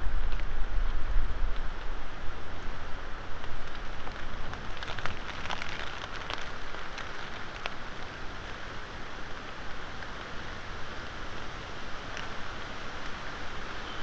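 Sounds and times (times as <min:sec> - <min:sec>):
wind and rain on microphone: 0:00.0 - 0:14.0
raindrops ticking close by: 0:00.2 - 0:14.0.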